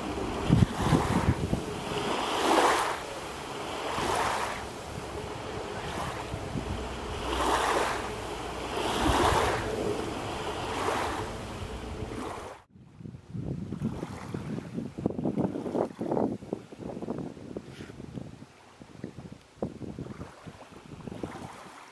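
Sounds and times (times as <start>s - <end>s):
waves lapping at shore: 0.0s - 21.9s
wind rumble on microphone: 0.0s - 21.9s.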